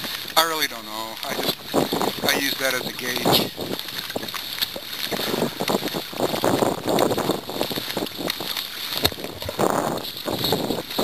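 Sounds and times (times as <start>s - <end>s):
water splashing against a kayak: 0.0s - 11.0s
wind on microphone: 0.0s - 11.0s.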